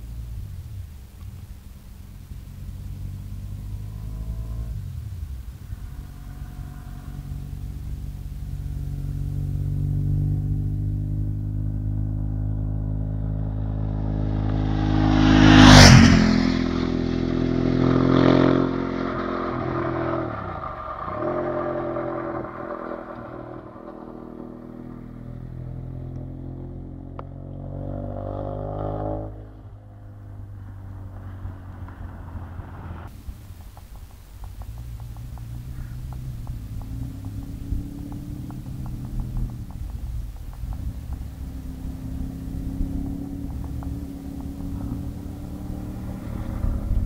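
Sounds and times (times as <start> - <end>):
motorcycle accelerating away: 0.0 - 47.0
motorcycle engine passing by: 2.1 - 47.0.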